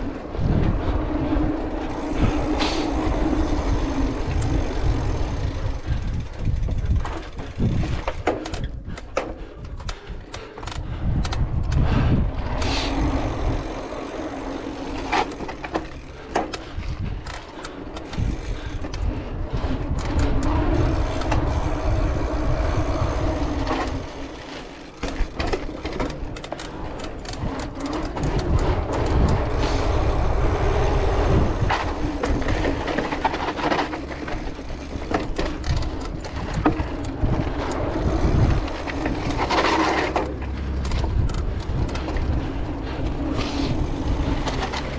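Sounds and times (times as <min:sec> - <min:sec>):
bike rattling over bumps: 0:00.0 - 0:44.9
tyres rumbling on paving: 0:00.0 - 0:44.9.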